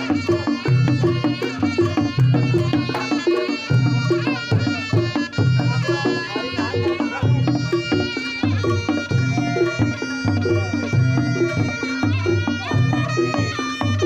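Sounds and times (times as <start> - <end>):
hand drum strokes: 0.0 - 14.0
reed-like melody: 0.0 - 14.0.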